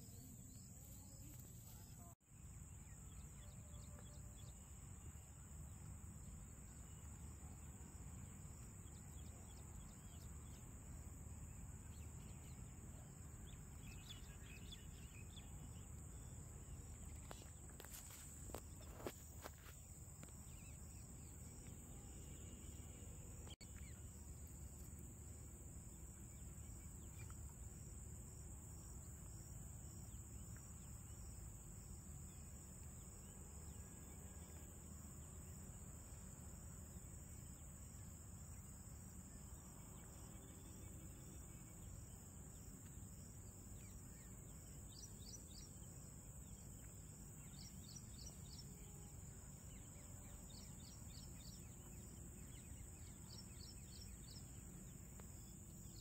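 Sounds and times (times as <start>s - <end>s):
high insect drone: 0.0s - 56.0s
low background hiss: 0.0s - 56.0s.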